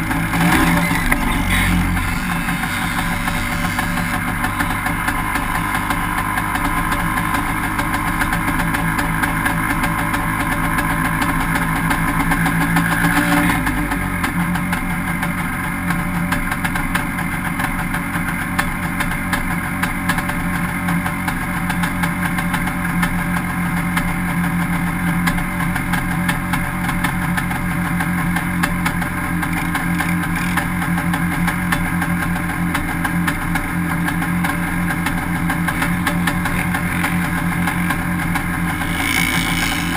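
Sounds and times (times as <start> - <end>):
small buggy engine idling: 0.0 - 39.9.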